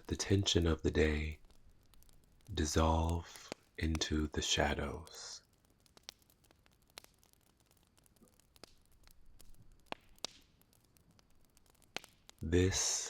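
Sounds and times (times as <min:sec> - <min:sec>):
soft hiss: 0:00.0 - 0:13.0
wood fire crackling: 0:00.0 - 0:13.0.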